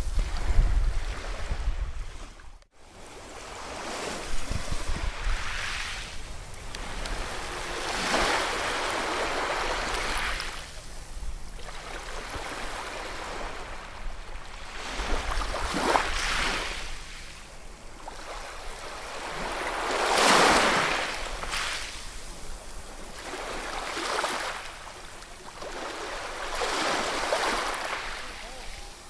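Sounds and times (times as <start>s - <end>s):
ocean waves surging: 3.1s - 29.0s.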